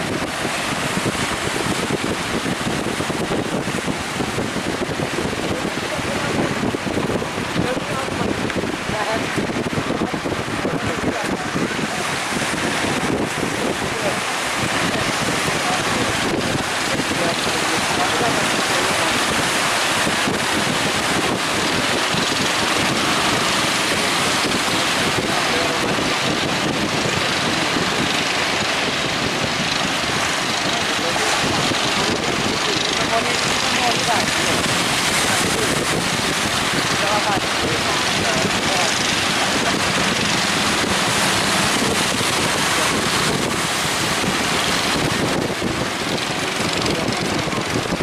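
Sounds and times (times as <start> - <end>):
heavy surf: 0.0 - 48.0
wind buffeting microphone: 0.0 - 48.0.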